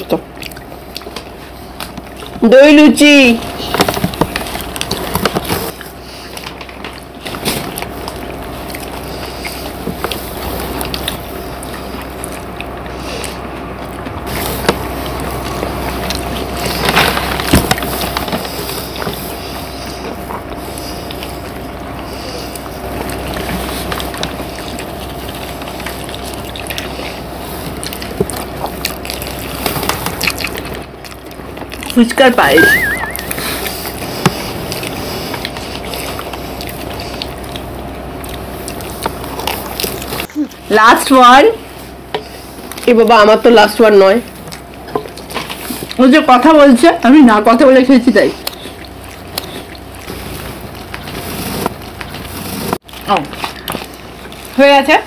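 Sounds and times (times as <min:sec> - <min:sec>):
wet chewing and crunching: 0:00.0 - 0:55.0.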